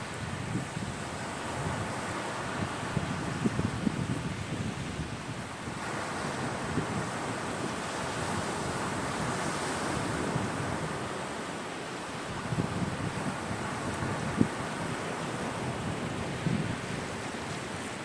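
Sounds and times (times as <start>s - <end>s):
wind rumbling on microphone: 0.0s - 11.4s, 12.2s - 18.0s
sea waves breaking on shore: 0.0s - 18.0s.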